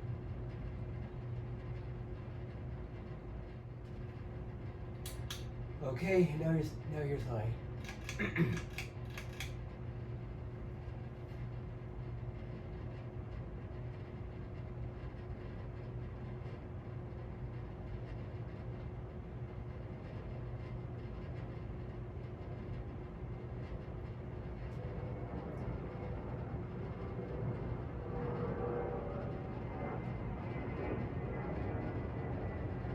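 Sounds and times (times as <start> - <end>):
ceiling fan running: 0.0 - 32.9.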